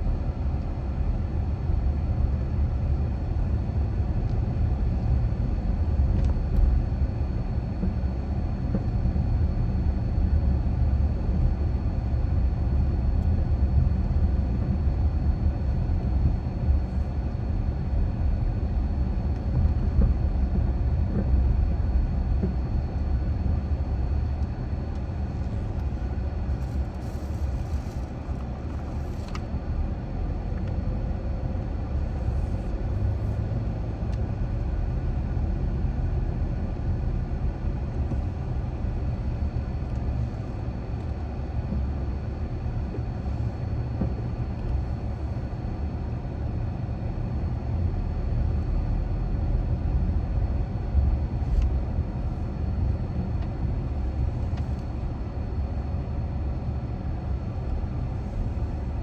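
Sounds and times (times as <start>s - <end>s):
car road and engine rumble: 0.0s - 46.4s, 49.5s - 56.0s, 56.7s - 59.0s.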